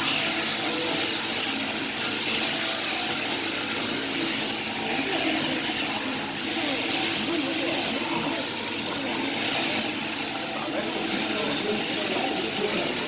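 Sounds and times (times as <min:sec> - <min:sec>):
sheep-shearing machine running: 0:00.0 - 0:13.0.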